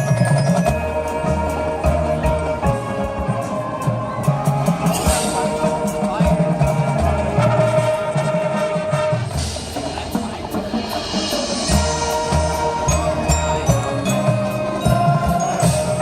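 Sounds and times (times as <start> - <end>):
bell-like mallet percussion: 0.0 - 7.6, 9.4 - 16.0
drum strokes: 0.0 - 16.0
marching band playing: 0.0 - 16.0.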